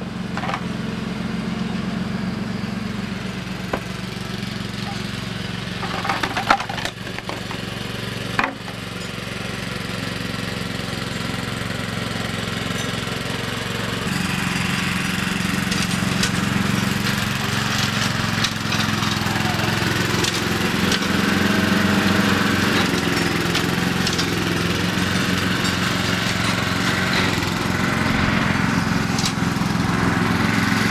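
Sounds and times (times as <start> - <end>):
lawn mower engine running: 0.0 - 30.9.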